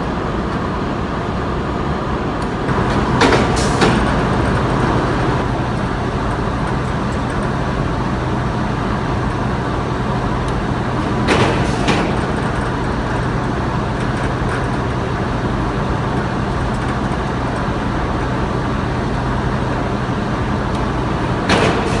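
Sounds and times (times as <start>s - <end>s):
factory machinery running: 0.0s - 22.0s.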